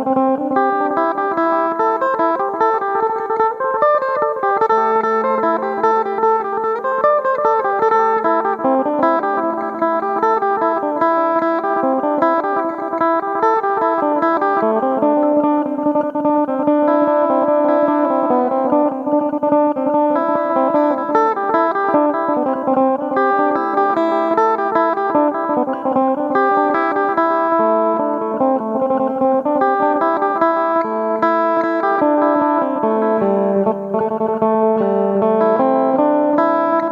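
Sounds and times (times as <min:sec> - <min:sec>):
plucked electric lute melody: 0:00.0 - 0:36.9.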